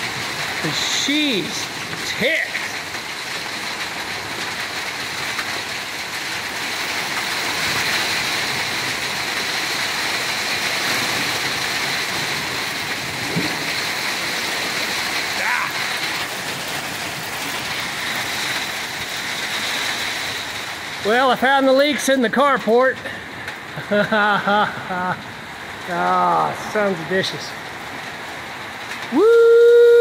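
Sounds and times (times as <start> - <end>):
torrential rain pouring: 0.0 - 30.0.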